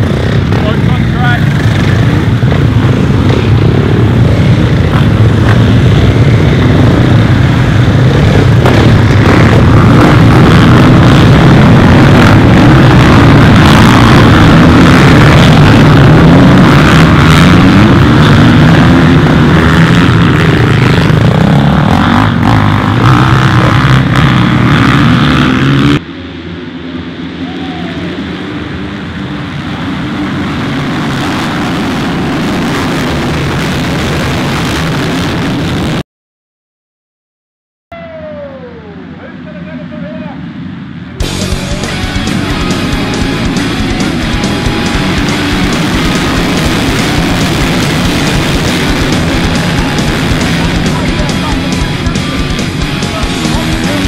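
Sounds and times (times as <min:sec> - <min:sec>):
motocross bike engines revving: 0:00.0 - 0:26.1, 0:26.9 - 0:35.4, 0:38.1 - 0:54.0.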